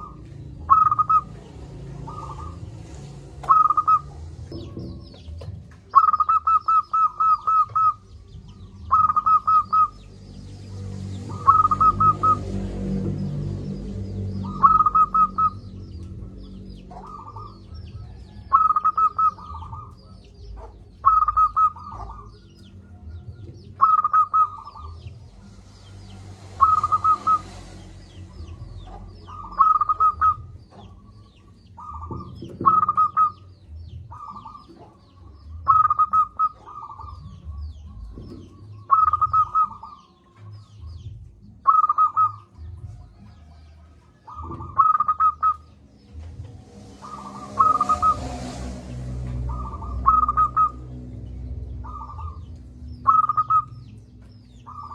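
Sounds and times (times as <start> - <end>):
dove cooing: 0.0 - 10.2, 11.0 - 25.5, 26.6 - 40.2, 40.8 - 43.6, 44.2 - 45.9, 47.0 - 51.1, 51.8 - 54.9.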